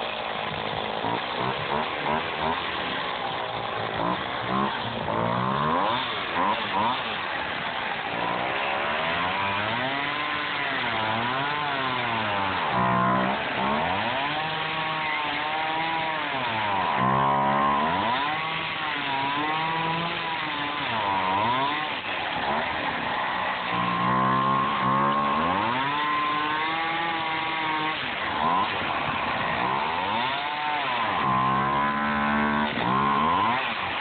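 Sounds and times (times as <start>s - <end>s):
chainsaw cutting foam: 0.0s - 34.0s.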